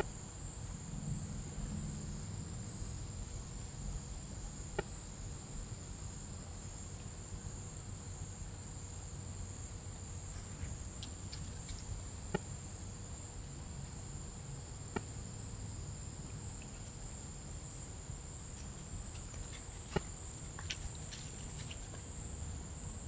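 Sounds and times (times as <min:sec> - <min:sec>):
high-pitched insect chorus: 0:00.0 - 0:23.0
low background hum: 0:00.0 - 0:23.0.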